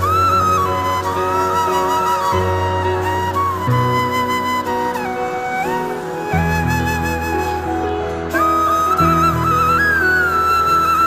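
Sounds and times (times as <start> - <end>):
flute playing slow melody: 0.0 - 11.0.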